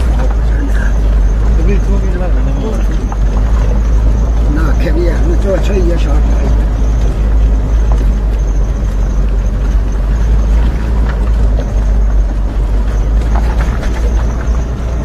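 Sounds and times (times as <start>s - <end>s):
engine and tyres rumbling on gravel: 0.0s - 15.0s.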